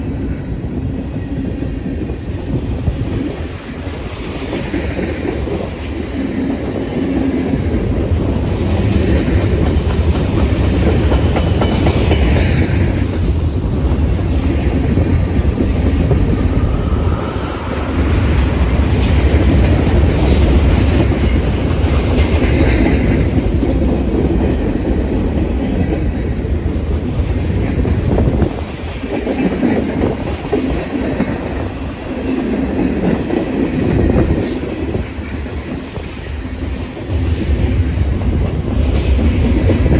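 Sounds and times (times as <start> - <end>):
train rumbling past: 0.0 - 39.9
train wheels clattering over joints: 2.0 - 39.9.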